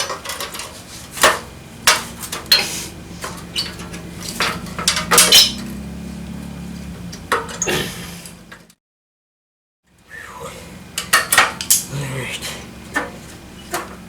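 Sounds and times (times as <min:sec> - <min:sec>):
metal springs clanking on frame: 0:00.0 - 0:08.7, 0:10.9 - 0:14.0.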